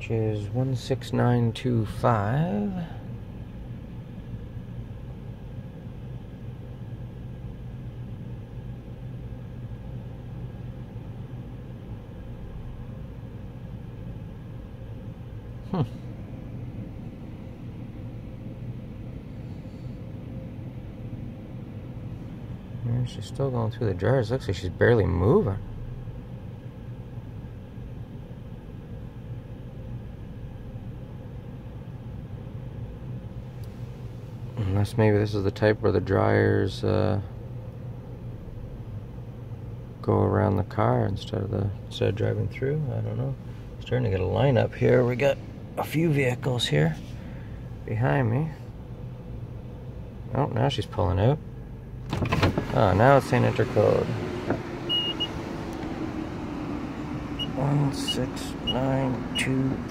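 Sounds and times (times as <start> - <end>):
car wash dryer blowers rumbling: 0.0 - 59.9
vehicle cabin hum: 0.0 - 59.9.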